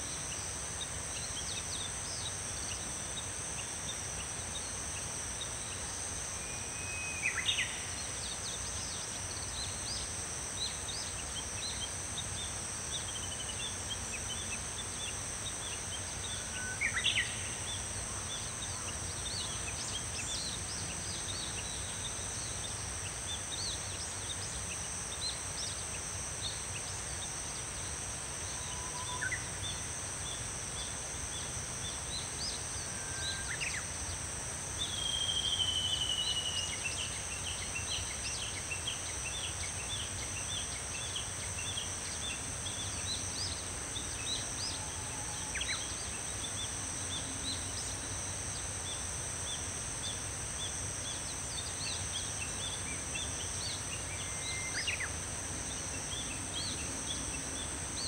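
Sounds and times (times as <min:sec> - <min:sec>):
cicadas droning: 0:00.0 - 0:58.0.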